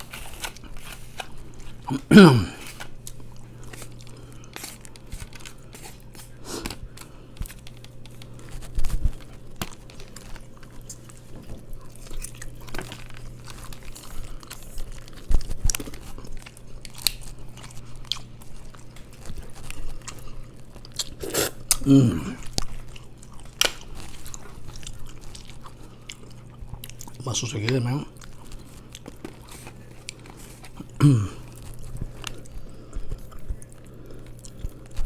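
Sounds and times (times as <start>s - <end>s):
chewing and biting food: 0.0s - 35.0s.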